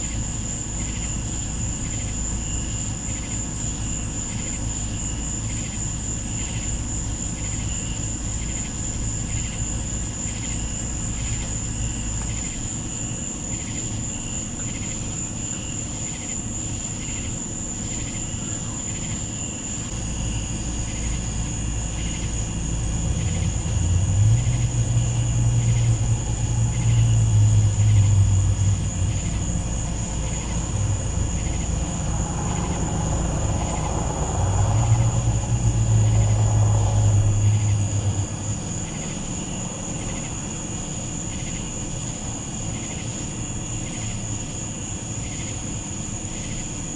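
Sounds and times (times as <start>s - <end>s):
low rumbling hum: 0.0s - 45.1s
night insects trilling: 0.0s - 46.9s.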